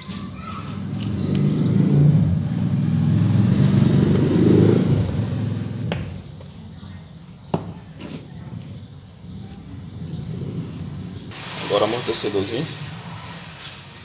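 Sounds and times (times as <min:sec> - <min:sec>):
vehicle engine passing by: 0:00.1 - 0:06.4, 0:08.4 - 0:14.0.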